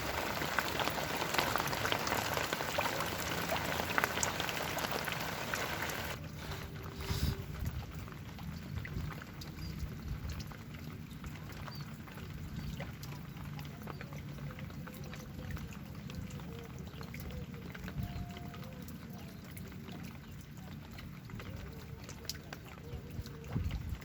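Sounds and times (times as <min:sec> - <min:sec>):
raindrops ticking: 0:00.0 - 0:24.0
steady rain falling: 0:00.0 - 0:24.0.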